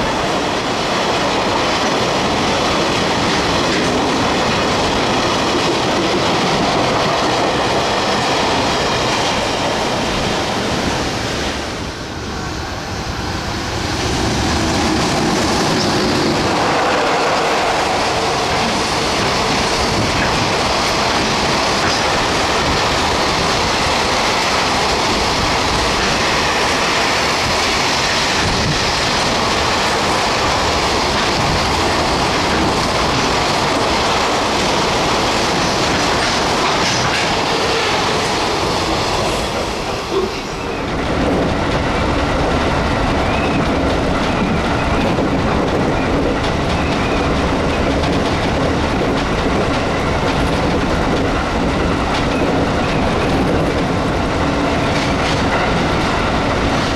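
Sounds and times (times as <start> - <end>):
train wheels on rails: 0.0 - 56.9.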